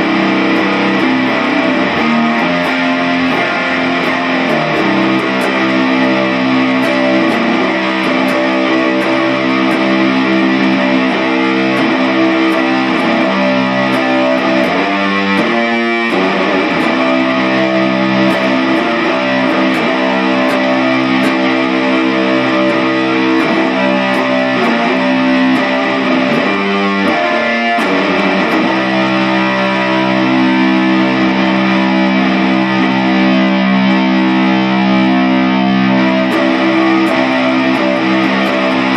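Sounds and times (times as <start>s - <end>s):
distorted electric guitar music: 0.0s - 38.9s.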